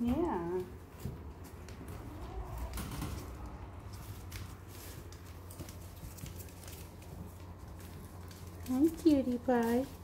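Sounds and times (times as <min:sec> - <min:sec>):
paws pattering on hard floor: 0:00.0 - 0:10.0
puppies scrabbling over newspaper: 0:00.0 - 0:10.0.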